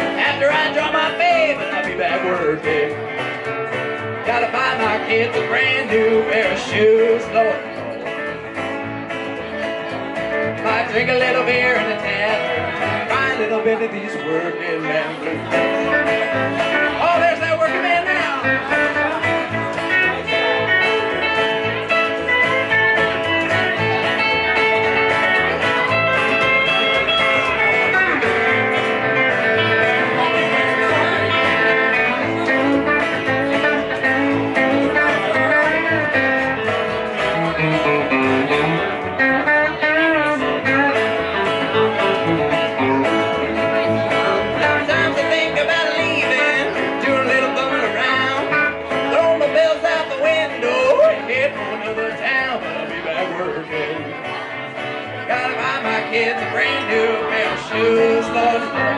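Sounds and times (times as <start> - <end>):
live band music: 0.0 - 58.9.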